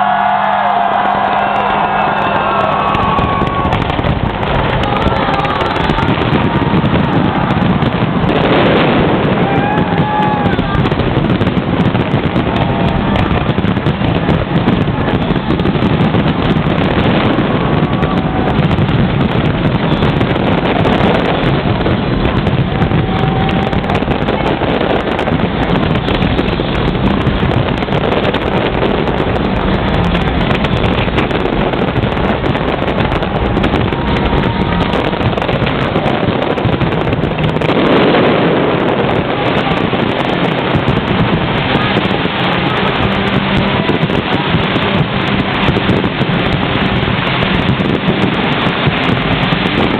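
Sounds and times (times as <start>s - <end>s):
fireworks bangs and crackle: 0.0s - 49.9s
wind buffeting microphone: 0.0s - 49.9s.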